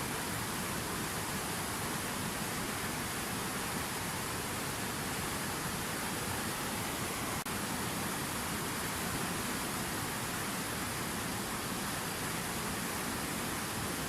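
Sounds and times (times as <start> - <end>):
fountain water pouring and splashing: 0.0 - 14.0.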